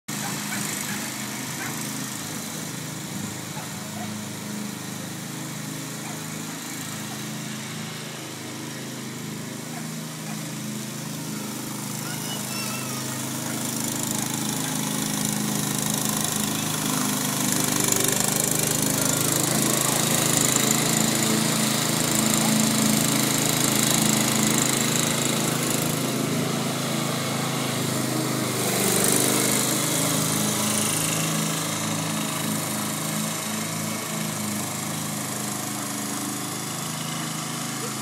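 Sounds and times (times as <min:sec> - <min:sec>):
riding mower engine running: 0:00.1 - 0:38.0.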